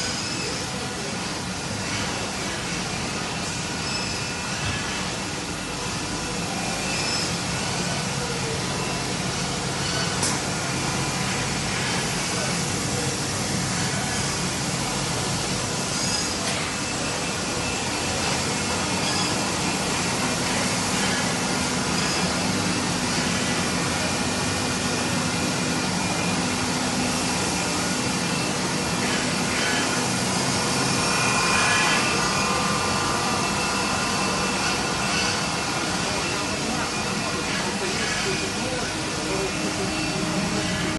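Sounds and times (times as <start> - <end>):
machine hums and whines: 0.0 - 40.9.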